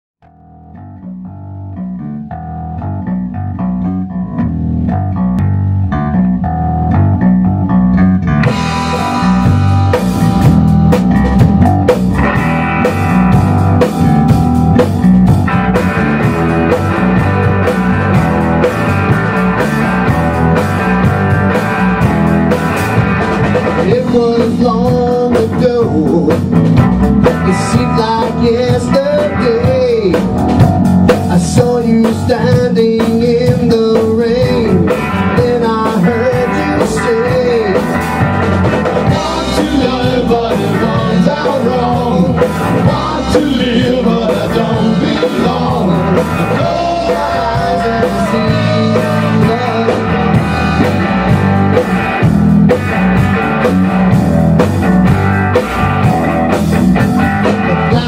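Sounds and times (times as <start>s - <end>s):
rock band playing: 0.2s - 58.0s.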